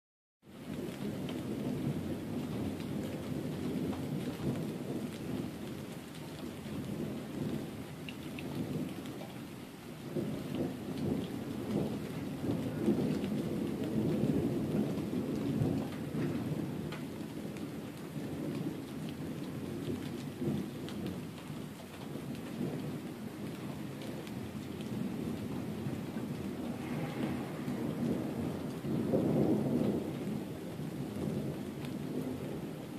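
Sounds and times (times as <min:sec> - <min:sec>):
steady rain: 0:00.4 - 0:32.9
faint raindrop ticks: 0:00.6 - 0:32.9
thunder rumbling: 0:00.6 - 0:32.9.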